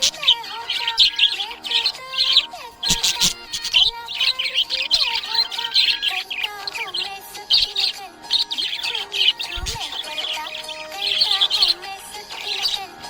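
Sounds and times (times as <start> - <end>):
budgies chirping and warbling: 0.0 - 13.0.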